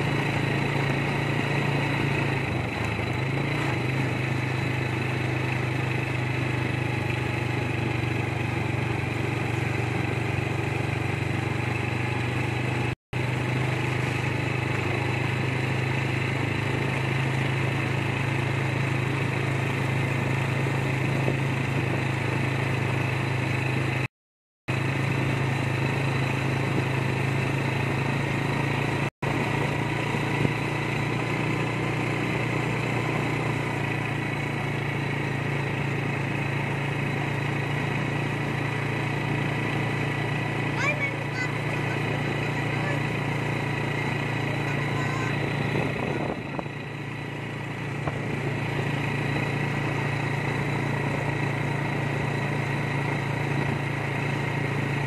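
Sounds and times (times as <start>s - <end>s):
small motorcycle engine running: 0.0s - 24.1s, 24.7s - 55.0s.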